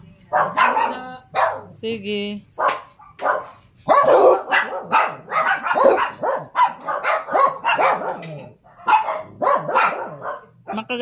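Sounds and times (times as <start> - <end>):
small dogs barking: 0.3 - 1.8, 2.6 - 10.8.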